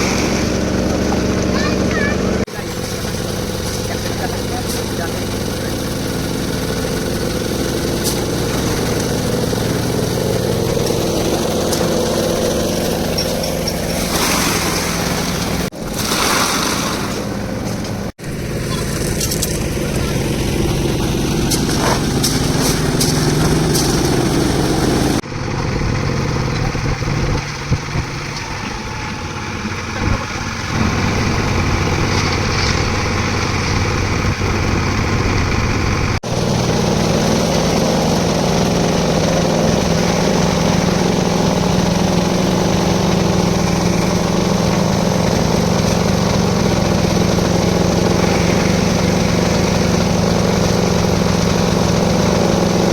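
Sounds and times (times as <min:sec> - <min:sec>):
concrete mixer engine running: 0:00.0 - 0:52.9.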